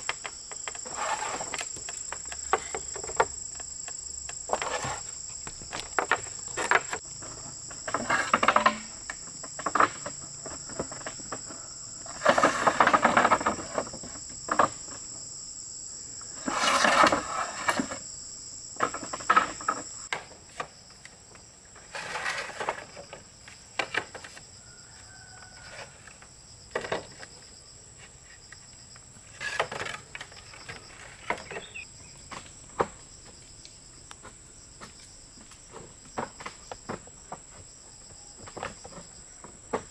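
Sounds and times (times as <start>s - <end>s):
bamboo and brush rustling: 0.0s - 15.3s, 16.3s - 18.2s, 18.8s - 39.9s
insects droning: 0.0s - 39.9s.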